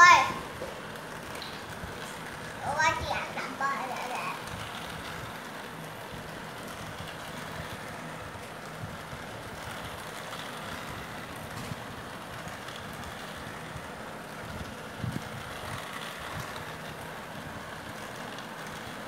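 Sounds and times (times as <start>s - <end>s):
toy train motor whirring: 0.0s - 19.0s
wheels rattling on track: 0.0s - 19.0s.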